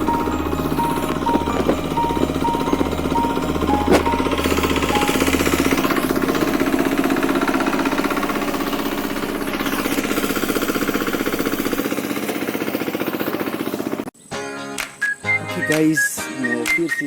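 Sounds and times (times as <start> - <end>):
farm machine engine knocking: 0.0 - 14.0.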